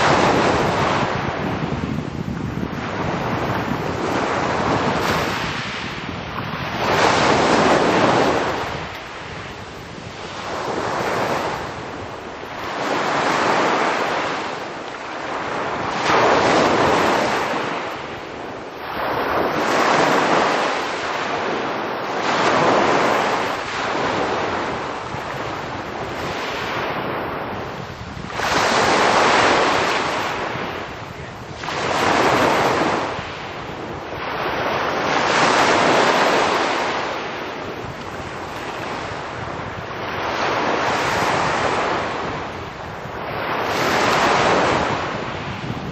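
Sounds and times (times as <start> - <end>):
waves washing on pebble beach: 0.0 - 45.9.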